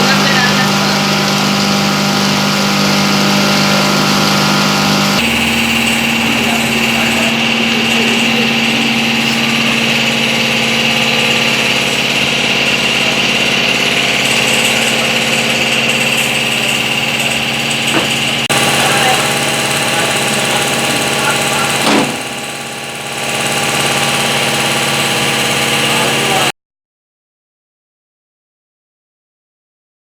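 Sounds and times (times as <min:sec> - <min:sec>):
high machine whine: 0:00.0 - 0:26.5
waste grinder humming: 0:00.0 - 0:26.5.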